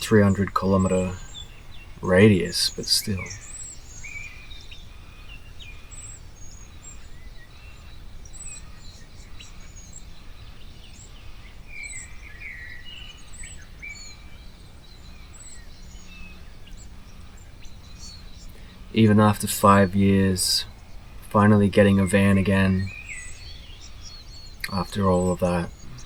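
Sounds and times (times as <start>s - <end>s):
birds calling and chirping: 0.0s - 26.0s.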